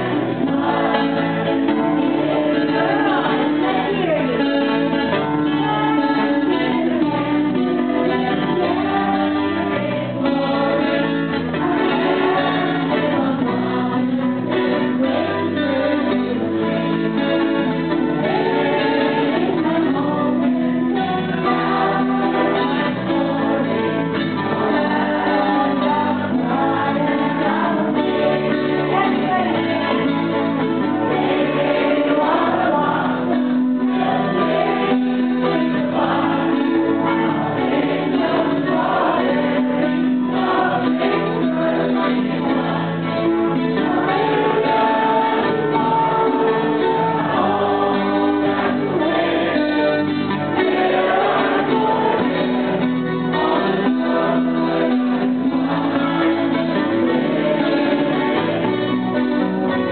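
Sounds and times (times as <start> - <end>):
choir singing long notes: 0.0 - 16.6, 17.9 - 59.9.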